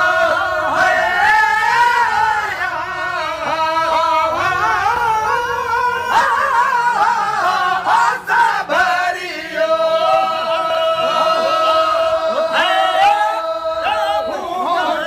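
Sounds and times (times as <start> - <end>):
men singing devotional chant: 0.0 - 15.0.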